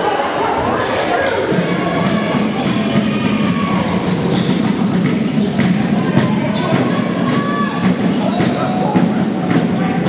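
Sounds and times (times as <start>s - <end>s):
crowd murmur: 0.0s - 10.0s.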